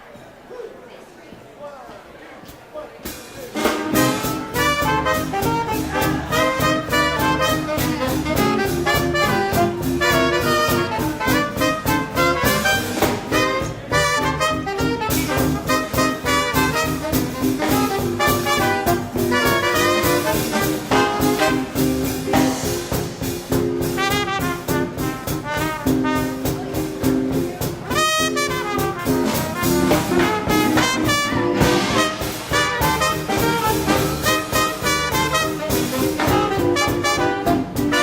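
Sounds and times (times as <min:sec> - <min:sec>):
driving drum beat: 0:03.0 - 0:38.0
brass section playing: 0:03.5 - 0:38.0.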